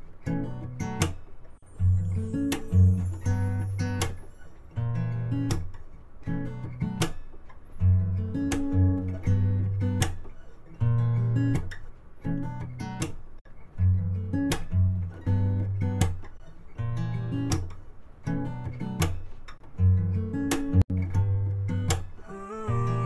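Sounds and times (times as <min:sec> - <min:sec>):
strummed acoustic guitar: 0:00.0 - 0:23.0.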